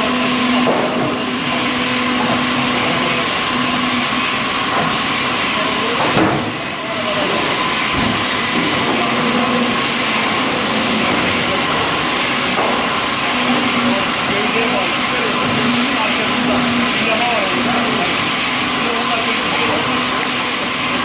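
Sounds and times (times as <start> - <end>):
machinery hissing: 0.0 - 21.0.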